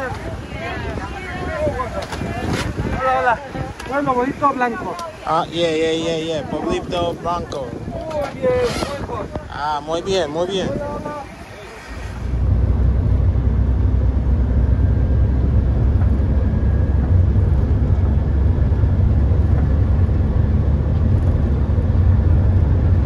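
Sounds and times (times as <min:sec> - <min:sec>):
van cabin road rumble: 0:00.0 - 0:23.0.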